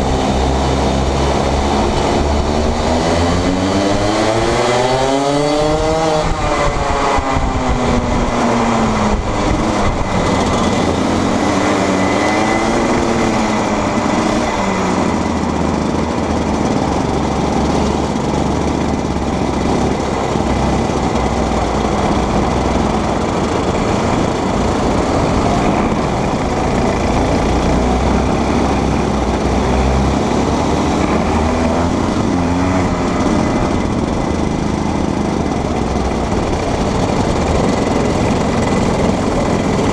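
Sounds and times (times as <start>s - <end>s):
kart engines racing: 0.0s - 39.9s
noisy rush: 0.0s - 39.9s.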